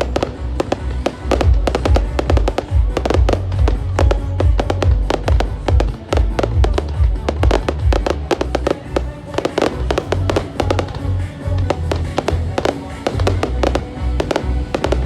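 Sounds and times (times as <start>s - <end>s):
fireworks bangs and crackles: 0.0s - 15.0s
loud music with heavy bass: 0.0s - 15.0s.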